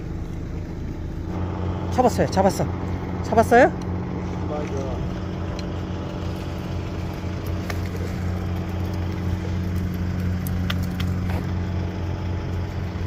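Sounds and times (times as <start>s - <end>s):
motor idling: 0.0s - 13.0s.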